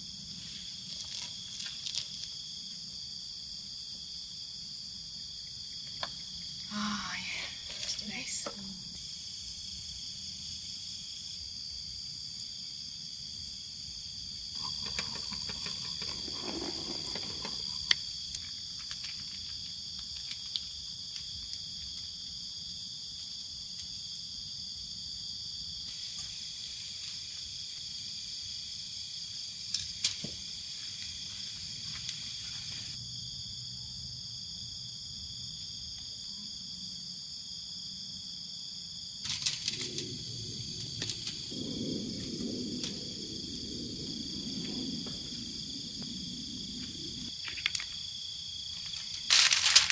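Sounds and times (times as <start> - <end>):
night insects buzzing: 0.0 - 49.9.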